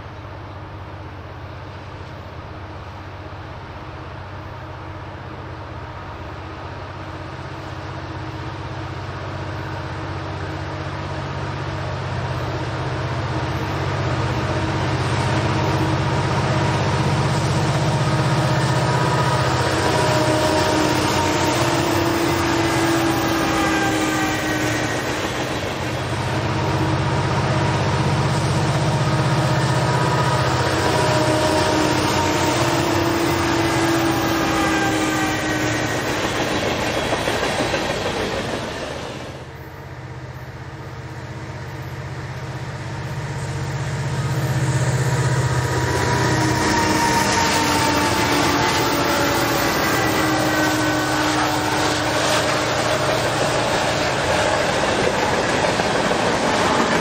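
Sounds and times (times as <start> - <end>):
diesel locomotive engine drone: 0.0 - 57.0
locomotive whine: 0.0 - 57.0.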